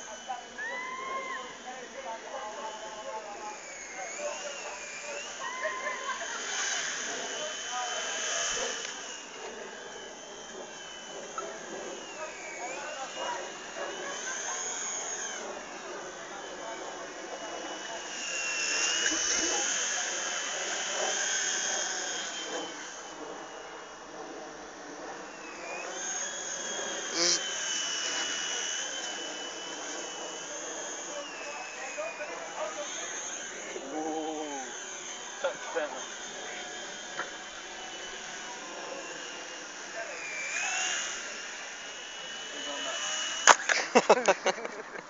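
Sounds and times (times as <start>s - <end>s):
toy helicopter motor whining: 0.0s - 45.0s.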